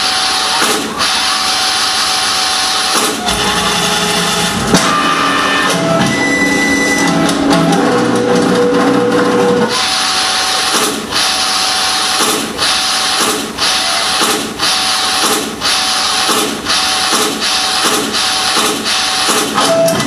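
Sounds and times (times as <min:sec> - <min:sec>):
pitched musical notes: 0:00.0 - 0:19.0
harsh machine-like noise: 0:00.0 - 0:20.0.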